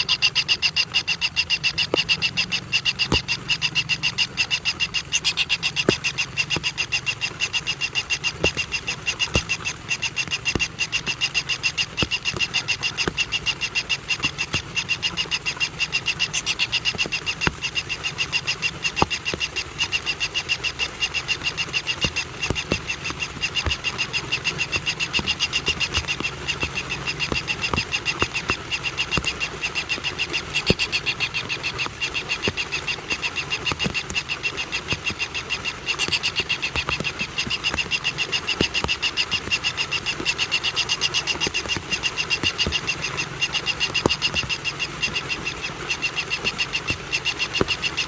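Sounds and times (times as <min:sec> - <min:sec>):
faint clicks: 0:00.0 - 0:48.0
rhythmic high-pitched animal chirping: 0:00.0 - 0:48.0.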